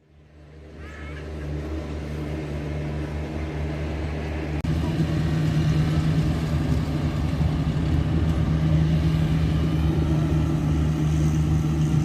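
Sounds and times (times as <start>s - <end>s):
lawn mower engine running: 1.3s - 12.0s.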